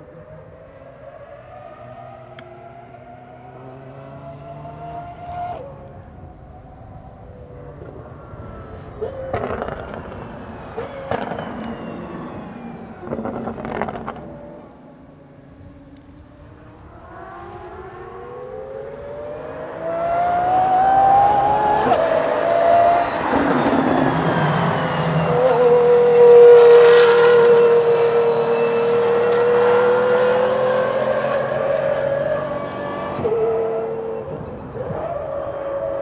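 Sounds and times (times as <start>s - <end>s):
car engine accelerating: 0.0s - 36.0s.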